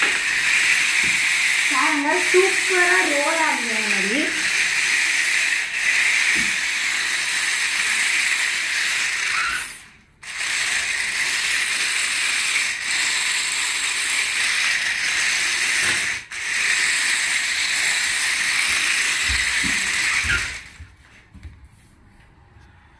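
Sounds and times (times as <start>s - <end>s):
toy car motor whirring: 0.0s - 20.9s.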